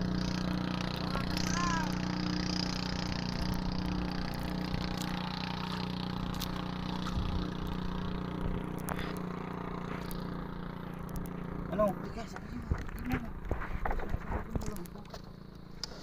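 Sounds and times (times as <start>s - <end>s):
small boat engine droning: 0.0s - 16.0s
wind: 0.0s - 16.0s.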